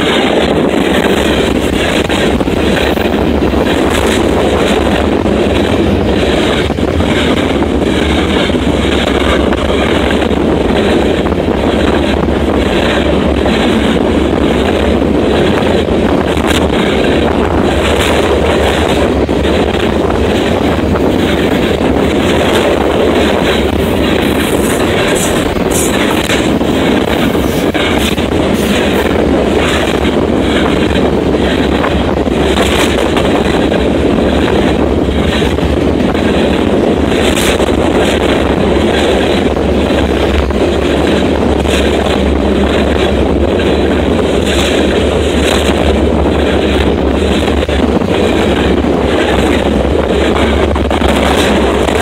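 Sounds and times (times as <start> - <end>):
freight train rumbling past: 0.0 - 52.0
wheels clicking on rails: 0.0 - 52.0.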